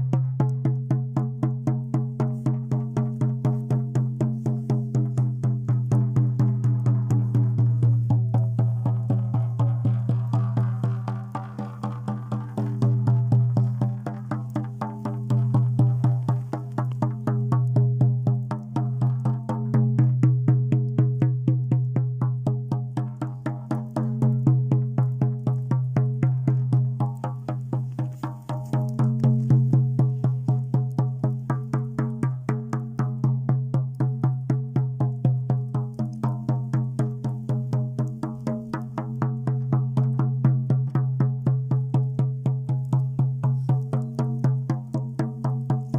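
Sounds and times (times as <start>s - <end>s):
frame drum beating: 0.0s - 45.9s.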